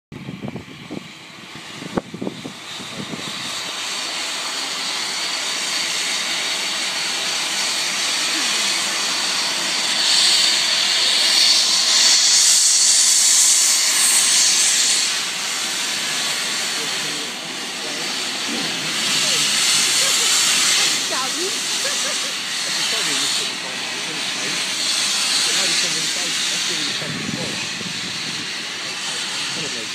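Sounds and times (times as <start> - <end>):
steam locomotive hissing steam: 0.2 - 29.9.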